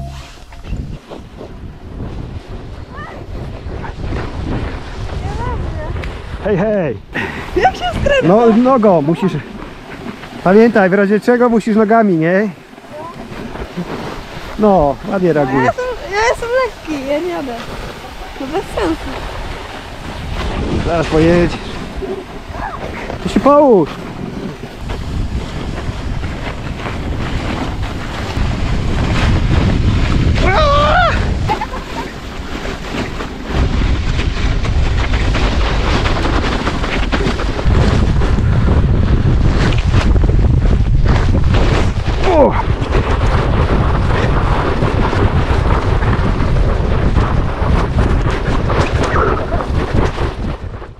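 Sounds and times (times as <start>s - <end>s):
sled scraping on snow: 0.0s - 50.9s
wind buffeting microphone: 0.0s - 50.9s.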